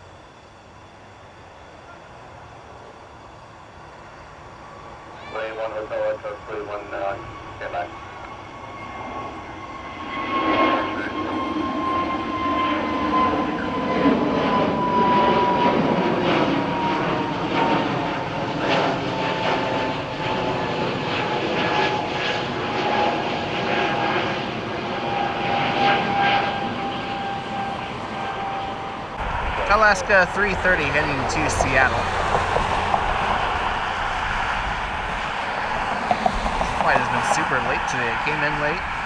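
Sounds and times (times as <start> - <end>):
jet engines whining: 0.0 - 39.0.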